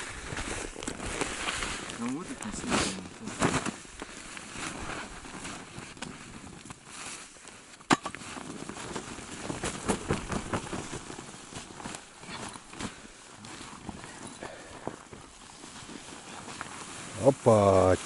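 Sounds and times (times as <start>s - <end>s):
tent fabric rustling and crackling: 0.0s - 18.0s.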